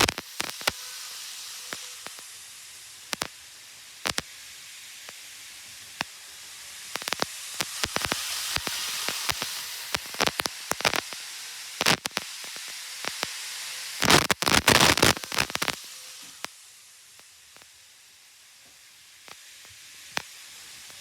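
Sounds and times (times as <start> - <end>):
sharp clicks and crackles: 0.0 - 17.9, 18.6 - 21.0
steady hiss: 0.0 - 21.0.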